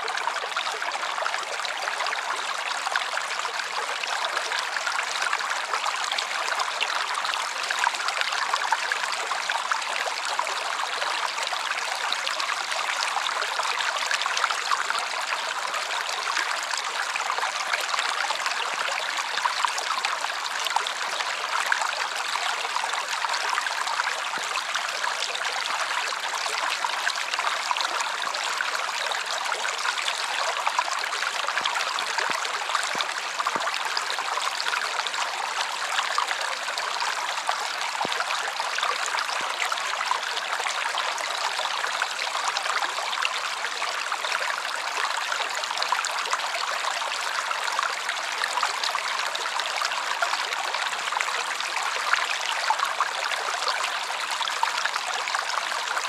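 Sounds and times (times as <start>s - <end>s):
stream water rippling: 0.0s - 56.0s.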